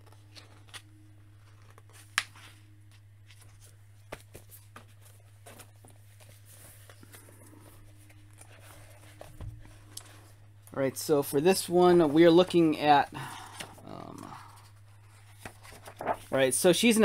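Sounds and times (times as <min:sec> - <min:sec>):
page rustling: 0:00.0 - 0:10.3, 0:13.3 - 0:17.0
steady low hum: 0:00.0 - 0:17.0.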